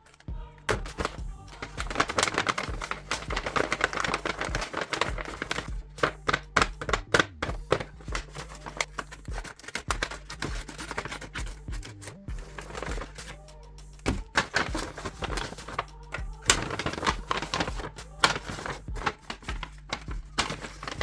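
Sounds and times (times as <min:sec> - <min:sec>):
paper crinkling and tapping: 0:00.0 - 0:13.4, 0:14.0 - 0:21.0
background music: 0:00.0 - 0:21.0.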